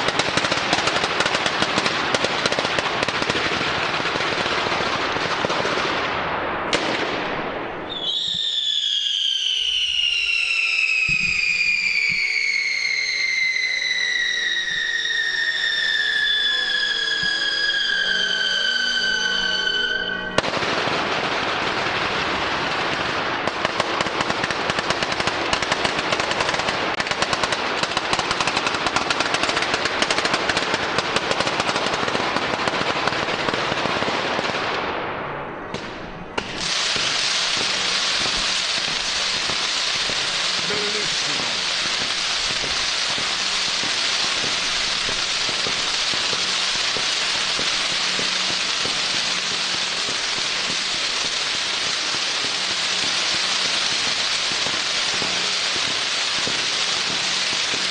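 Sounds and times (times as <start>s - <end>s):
firework fountains hissing: 0.0s - 34.3s, 36.4s - 57.9s
firecrackers crackling: 0.0s - 57.9s.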